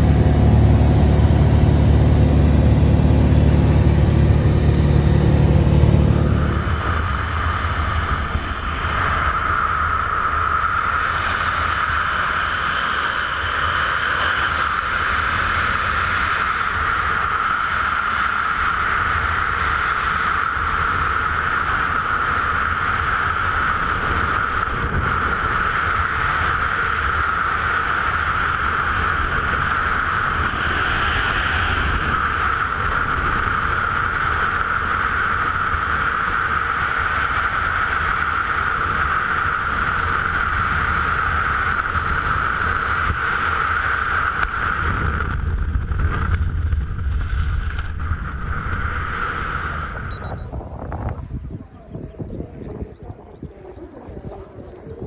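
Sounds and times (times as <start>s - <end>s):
freefall wind buffeting microphone: 0.0s - 55.0s
low rumble: 0.0s - 55.0s.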